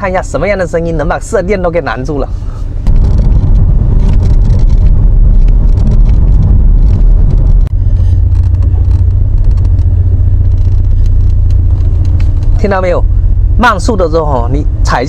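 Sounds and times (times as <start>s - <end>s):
road and drivetrain rumble: 0.0s - 15.0s.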